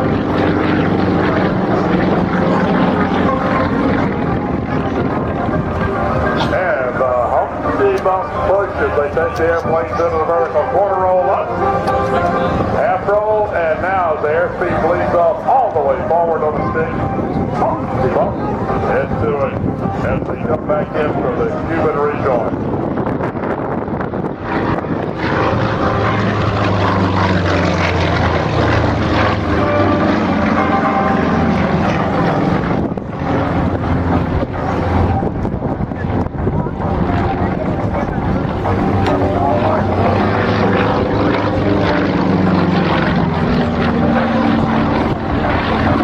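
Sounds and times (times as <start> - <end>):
propeller aircraft engines: 0.0 - 46.0.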